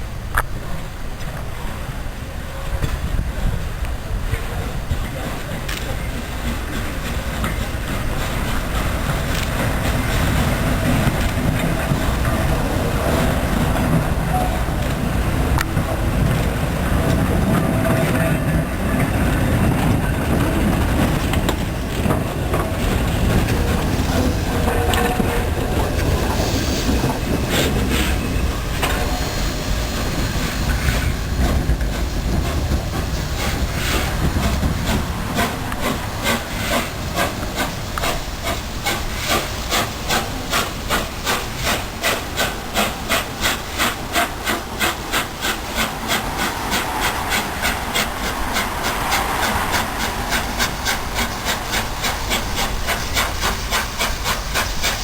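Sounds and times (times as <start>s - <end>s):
steam hiss: 0.0s - 55.0s
train rumble: 0.0s - 55.0s.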